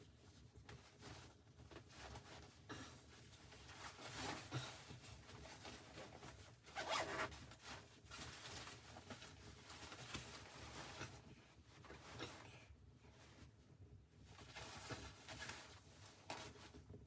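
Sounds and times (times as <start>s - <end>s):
faint rustling and clicks: 0.0s - 17.0s.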